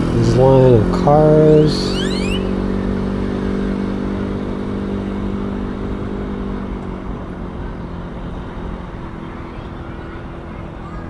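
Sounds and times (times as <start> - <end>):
traffic rumble: 0.0 - 11.0
vehicle engine droning: 0.0 - 11.0.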